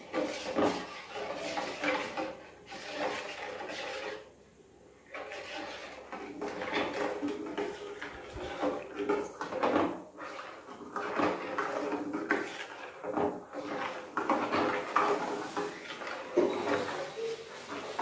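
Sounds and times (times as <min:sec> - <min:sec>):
metal spoon scraping a steel pan: 0:00.0 - 0:04.3, 0:05.1 - 0:09.5, 0:10.2 - 0:18.0.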